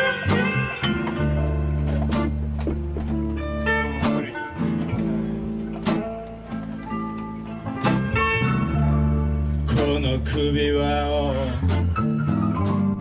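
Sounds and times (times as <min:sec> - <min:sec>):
bass line: 0:00.0 - 0:13.0
blues band playing: 0:00.0 - 0:13.0
strummed guitars: 0:00.0 - 0:13.0.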